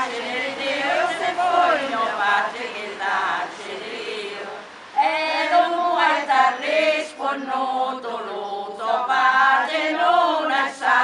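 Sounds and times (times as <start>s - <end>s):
women singing a folk song: 0.0s - 11.0s.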